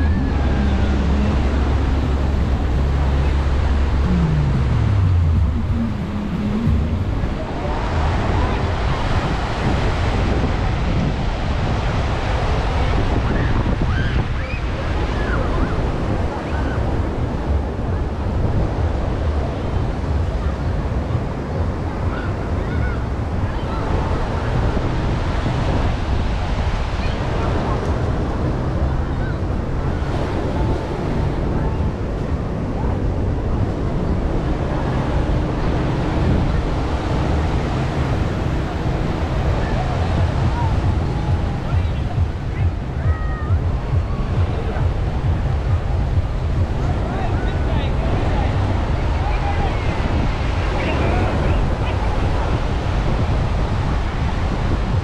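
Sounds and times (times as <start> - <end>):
sea surf breaking: 0.0 - 55.0
wind rumbling on microphone: 0.0 - 55.0.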